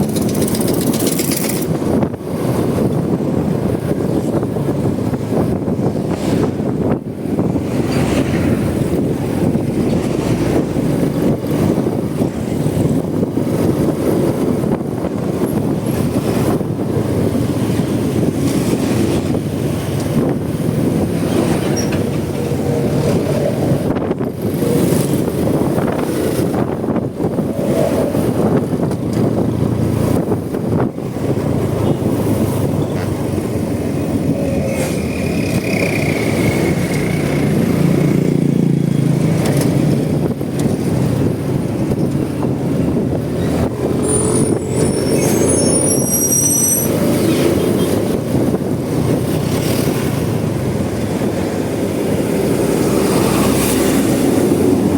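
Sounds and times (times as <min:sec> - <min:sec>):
motorcycle engine and tyre noise: 0:00.0 - 0:54.9
wind rushing over microphone: 0:00.0 - 0:54.9.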